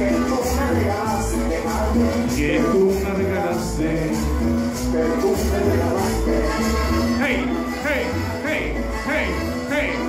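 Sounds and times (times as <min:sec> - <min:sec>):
latin dance music over loudspeakers: 0:00.0 - 0:10.0.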